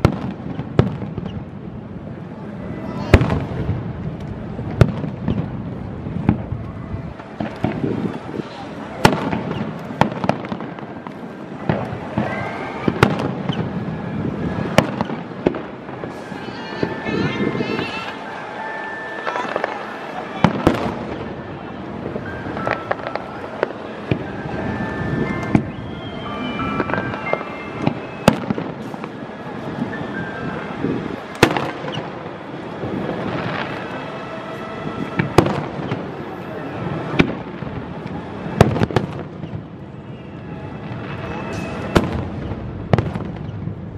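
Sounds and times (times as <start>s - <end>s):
fireworks bursting with bangs: 0.0s - 43.9s.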